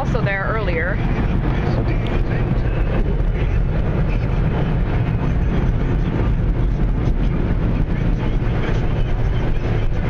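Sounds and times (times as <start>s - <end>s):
car wash machinery rumbling: 0.0s - 10.0s.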